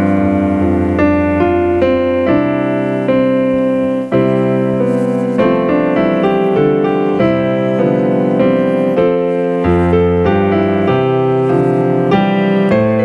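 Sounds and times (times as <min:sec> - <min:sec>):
piano playing held chords: 0:00.0 - 0:13.0.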